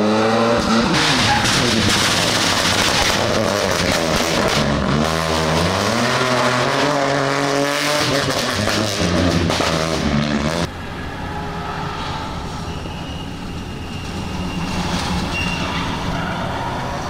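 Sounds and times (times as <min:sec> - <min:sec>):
rally car engine passing: 0:00.0 - 0:17.0.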